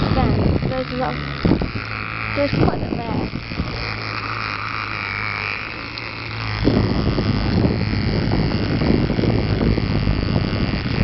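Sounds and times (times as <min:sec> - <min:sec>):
fan air blowing on microphone: 0:00.0 - 0:11.0
small fan motor humming: 0:00.0 - 0:11.0.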